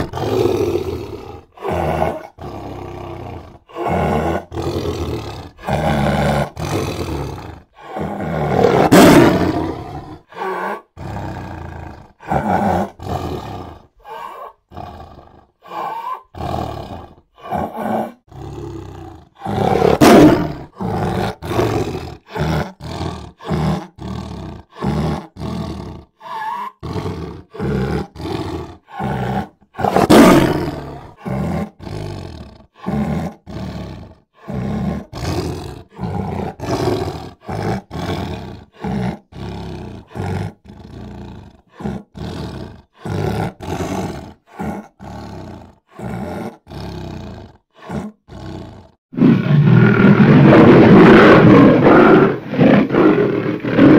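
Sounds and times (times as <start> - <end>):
big cat roaring: 0.0 - 53.9
big cats growling and snarling: 0.0 - 53.9.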